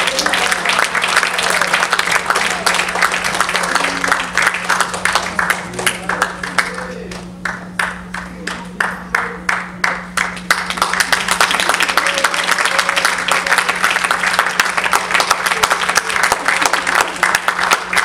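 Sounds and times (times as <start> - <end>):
congregation clapping: 0.0 - 18.0
steady low hum: 0.0 - 18.0.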